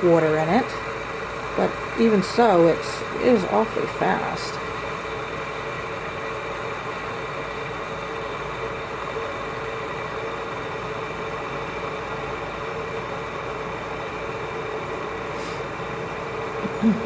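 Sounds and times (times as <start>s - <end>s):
electric kettle heating water: 0.0s - 17.0s.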